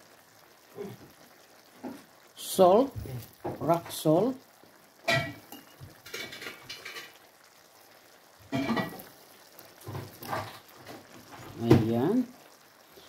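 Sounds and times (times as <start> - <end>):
sauce simmering and sizzling in pot: 0.0 - 13.0.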